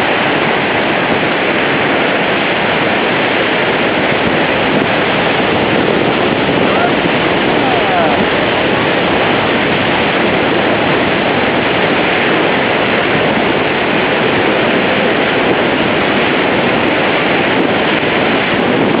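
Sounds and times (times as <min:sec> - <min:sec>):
churning water: 0:00.0 - 0:19.0
waterfall roar: 0:00.0 - 0:19.0.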